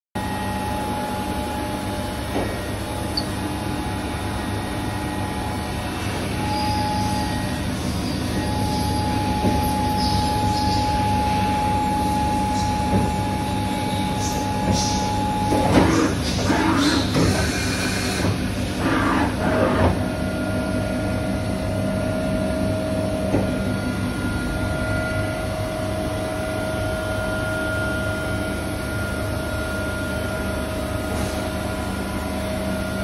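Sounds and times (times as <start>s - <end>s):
machine mechanical hum: 0.2s - 33.0s.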